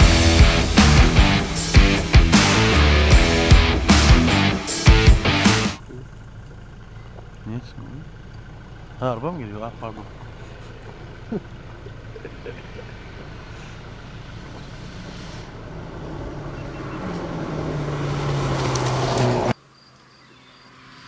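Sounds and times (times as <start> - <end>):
rally car engine approaching: 0.0 - 21.0.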